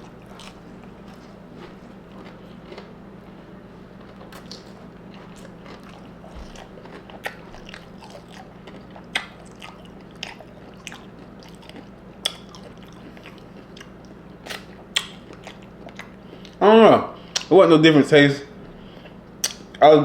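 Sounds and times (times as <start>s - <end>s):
chips crunching while chewing: 0.0s - 16.6s
steady low hum: 0.0s - 20.0s.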